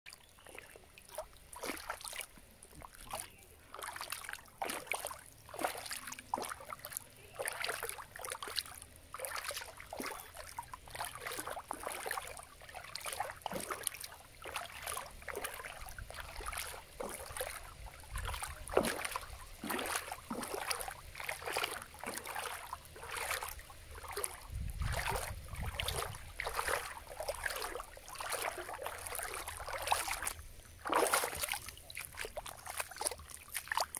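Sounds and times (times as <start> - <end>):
lake water lapping and splashing: 0.1 - 33.9.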